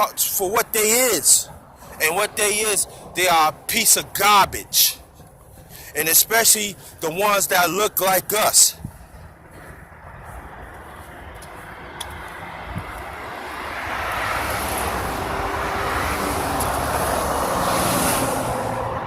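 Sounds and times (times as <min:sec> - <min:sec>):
rushing road noise: 0:00.0 - 0:19.0
vehicle engine: 0:00.0 - 0:19.0.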